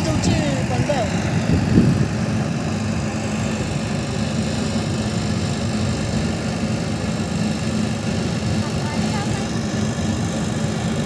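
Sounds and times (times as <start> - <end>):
diesel generator humming: 0.0 - 11.0.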